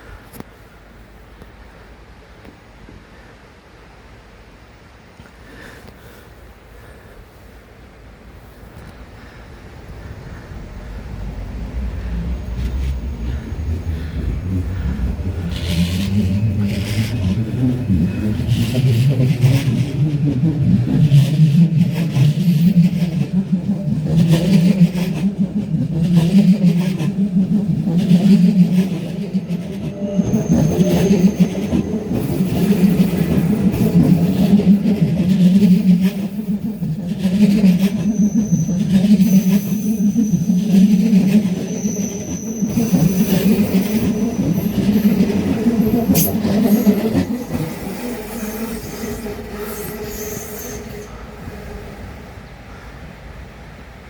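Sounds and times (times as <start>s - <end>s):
train electric hum: 0.0s - 54.0s
train wheels rattling: 9.0s - 52.7s.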